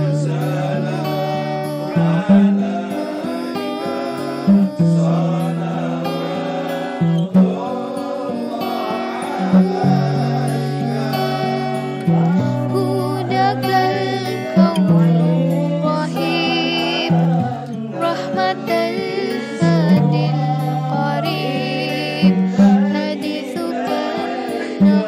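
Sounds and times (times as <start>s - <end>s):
plucked string accompaniment: 0.0s - 25.0s
wavering sung melody: 0.0s - 25.0s.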